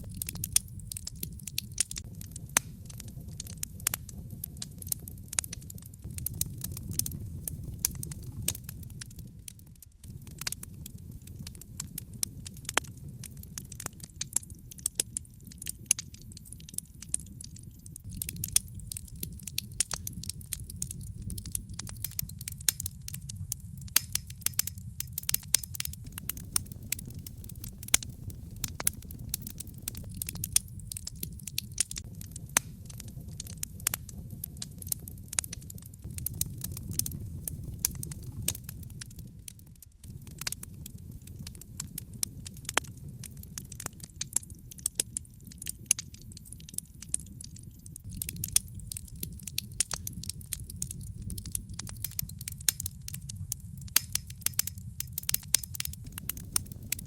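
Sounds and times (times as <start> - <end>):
logs crackling in fireplace: 0.0 - 57.0.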